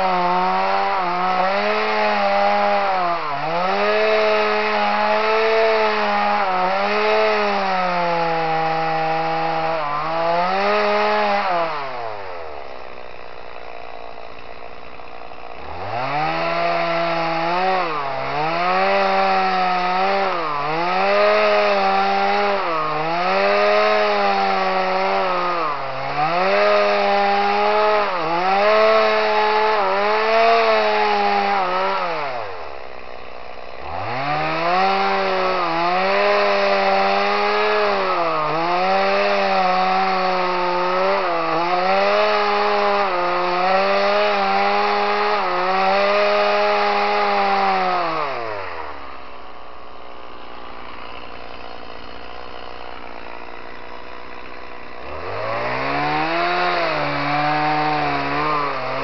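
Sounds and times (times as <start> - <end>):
chainsaw cutting a log: 0.0 - 59.0.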